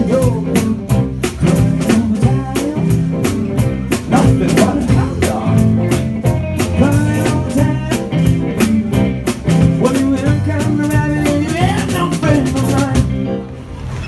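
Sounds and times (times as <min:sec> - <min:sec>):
male lead vocal: 0:00.0 - 0:13.2
rock band playing: 0:00.0 - 0:14.0.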